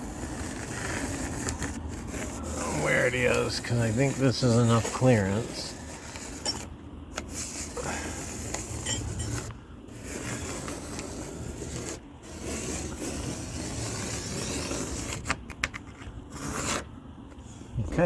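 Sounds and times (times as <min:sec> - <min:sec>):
pencil scratching on wood: 0:00.0 - 0:15.4, 0:16.3 - 0:16.9.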